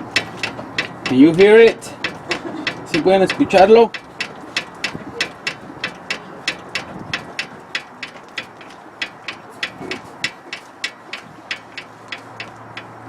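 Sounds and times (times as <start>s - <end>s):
sway bar link clicking: 0.0s - 13.0s.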